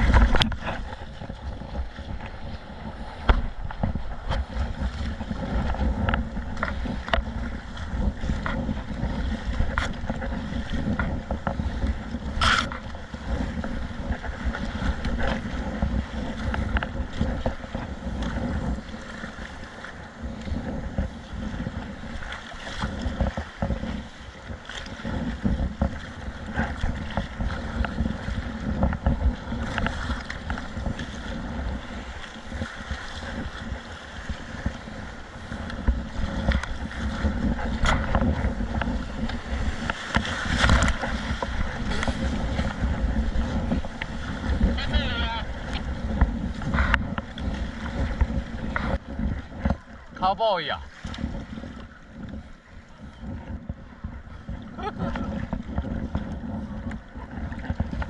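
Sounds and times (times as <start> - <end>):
water sloshing around kayak: 0.0 - 58.0
wind rumbling on microphone: 0.0 - 58.0.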